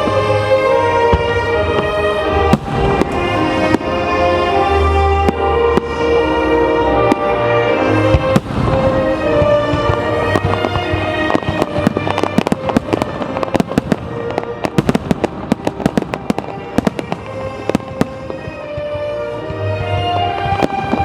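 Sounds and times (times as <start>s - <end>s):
fireworks bangs and crackles: 0.0s - 21.0s
music: 0.0s - 21.0s.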